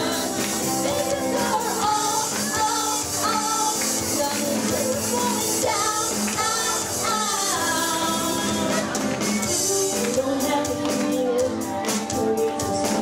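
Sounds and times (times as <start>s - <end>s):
acoustic and electric guitar: 0.0s - 13.0s
women singing: 0.0s - 13.0s.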